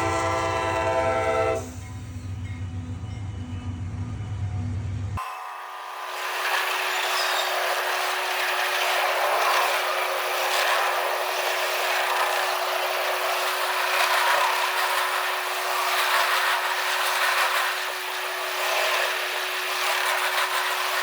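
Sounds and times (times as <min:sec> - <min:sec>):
train wheels rushing on rails: 0:00.0 - 0:05.2, 0:05.8 - 0:21.0.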